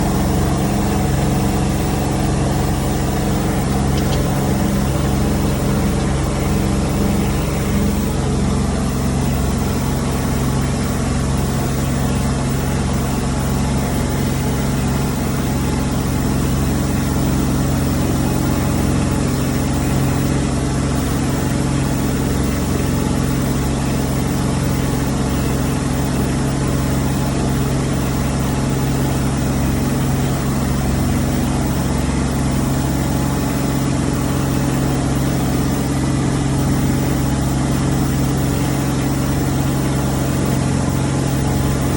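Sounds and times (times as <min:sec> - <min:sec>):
sprayer engine running: 0:00.0 - 0:41.9.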